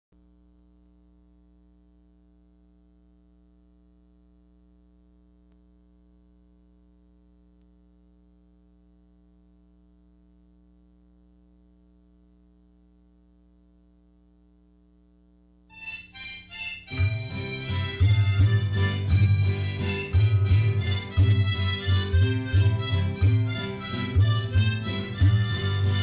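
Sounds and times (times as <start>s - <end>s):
faint steady hum: 0.2s - 26.0s.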